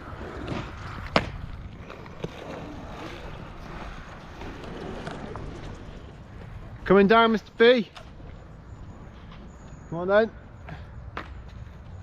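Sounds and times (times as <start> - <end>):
skateboard wheels rolling on wet ground: 0.0 - 9.8.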